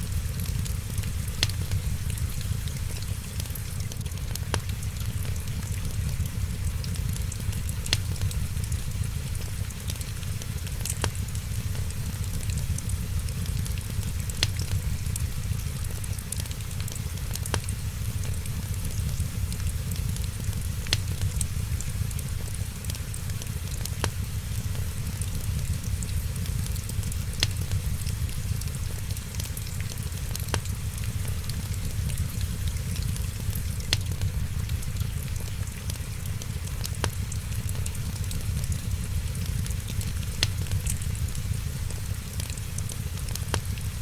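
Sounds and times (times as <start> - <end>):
low rumble of fire: 0.0 - 44.0
wood fire crackling: 0.0 - 44.0.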